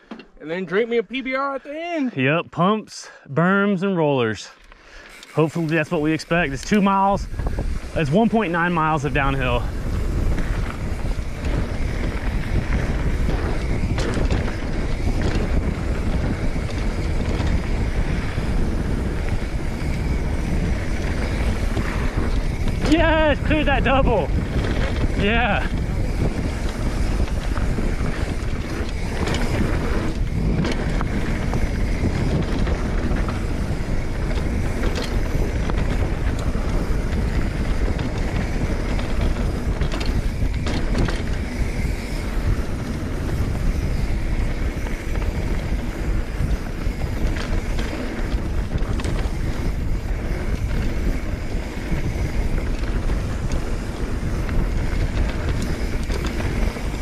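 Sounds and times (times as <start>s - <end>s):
bike clacking over bumps: 5.0s - 57.0s
tyres rumbling on dirt: 5.1s - 57.0s
wind buffeting microphone: 5.1s - 57.0s.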